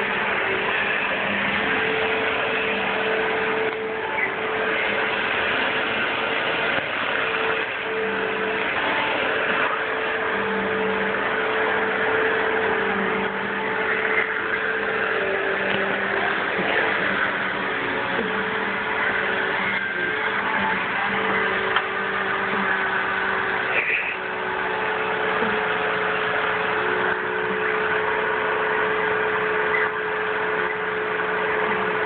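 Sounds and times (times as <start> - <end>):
vacuum cleaner motor running: 0.0 - 32.0.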